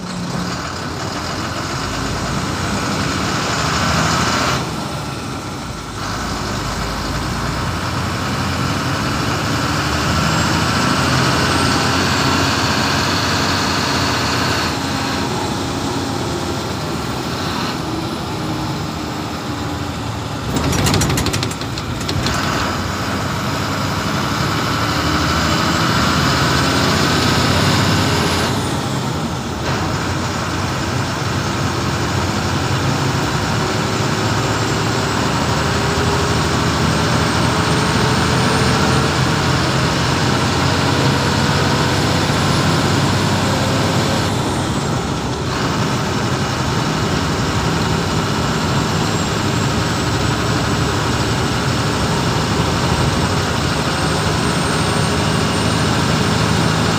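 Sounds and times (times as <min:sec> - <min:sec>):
bus engine and road noise: 0:00.0 - 0:56.9.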